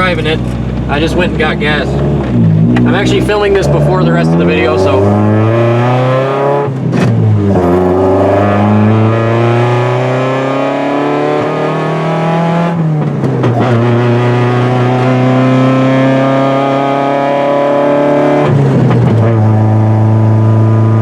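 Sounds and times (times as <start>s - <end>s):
car engine accelerating through gears: 0.0s - 21.0s.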